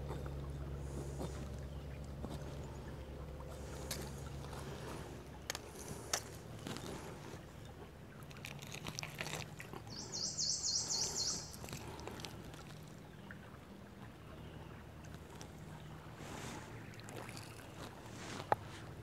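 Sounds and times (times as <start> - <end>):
creek water splashing and trickling: 0.0 - 19.0.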